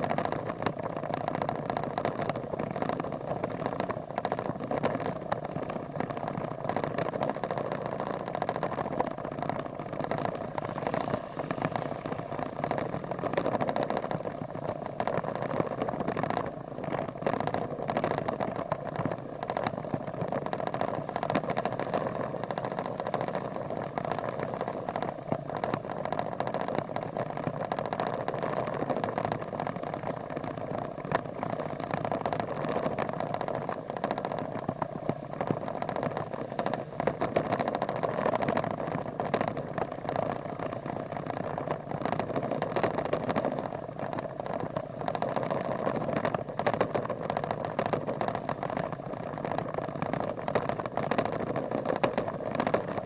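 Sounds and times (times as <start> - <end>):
small clicks and rattles: 0.0 - 53.0.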